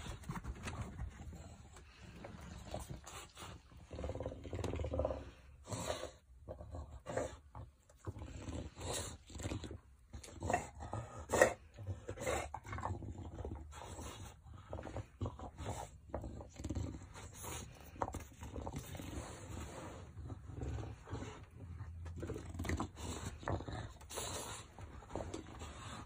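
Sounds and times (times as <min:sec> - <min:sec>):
dog vocalizing and breathing: 0:00.0 - 0:26.0.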